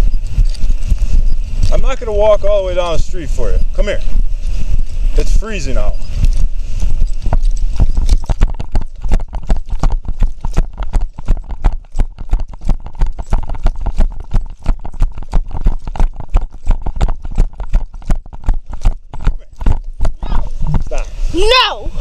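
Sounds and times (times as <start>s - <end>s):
running footsteps on snow: 0.0s - 21.0s.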